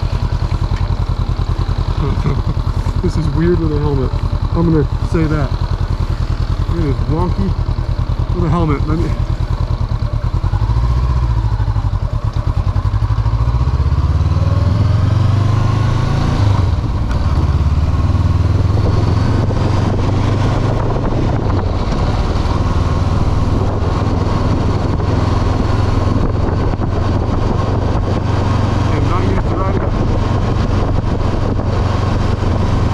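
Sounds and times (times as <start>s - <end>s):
motorcycle engine riding: 0.0s - 32.9s.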